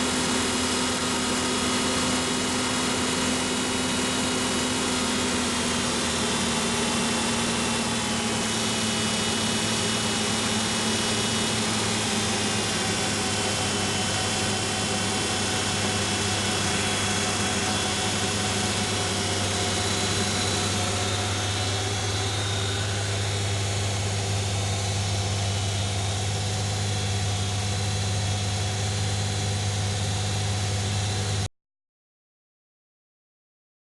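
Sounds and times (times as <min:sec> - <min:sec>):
engine idling: 0:00.0 - 0:31.5.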